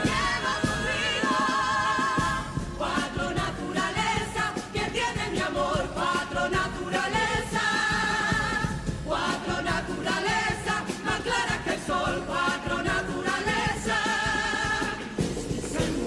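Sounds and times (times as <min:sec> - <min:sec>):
chorus singing in harmony: 0:00.0 - 0:16.0
steady drum beat: 0:00.0 - 0:16.0.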